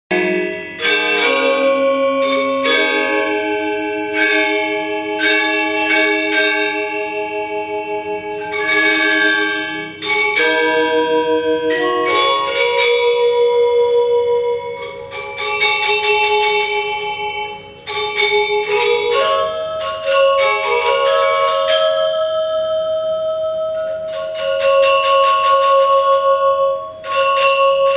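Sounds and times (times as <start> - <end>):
metallophones playing fast melody: 0.1 - 27.9.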